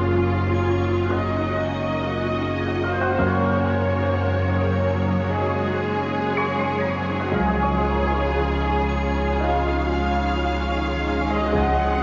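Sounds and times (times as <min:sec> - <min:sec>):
gentle new-age music: 0:00.0 - 0:12.0.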